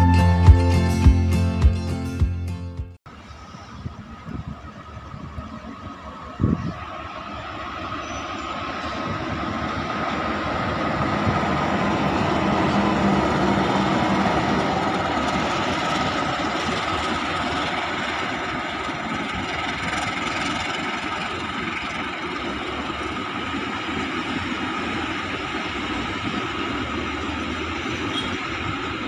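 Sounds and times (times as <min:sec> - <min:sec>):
diesel locomotive engine: 0:03.1 - 0:29.0
freight wagons rolling on rails: 0:03.1 - 0:29.0.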